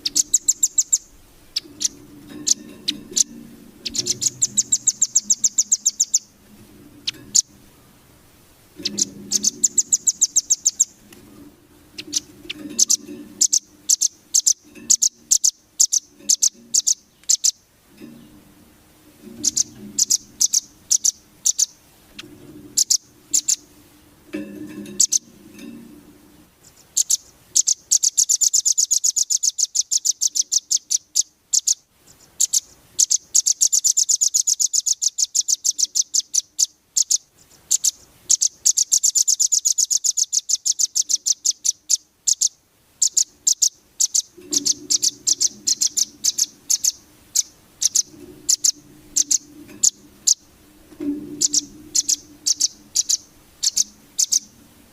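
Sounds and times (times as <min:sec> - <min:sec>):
songbird chirping and trilling: 0:00.0 - 0:08.1, 0:08.8 - 0:18.6, 0:19.2 - 0:23.8, 0:24.4 - 0:54.9.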